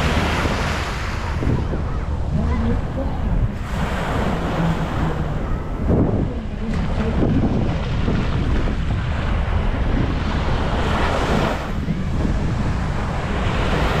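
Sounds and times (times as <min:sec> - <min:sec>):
sea waves breaking on beach: 0:00.0 - 0:14.0
wind buffeting microphone: 0:00.0 - 0:14.0.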